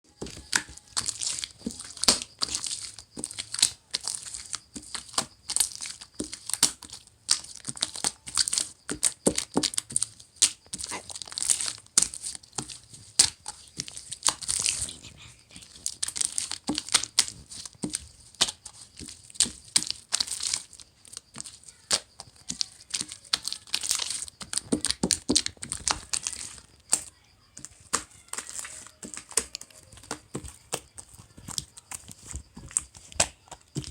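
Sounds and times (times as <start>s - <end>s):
crinkling and crackling: 0.0s - 33.9s.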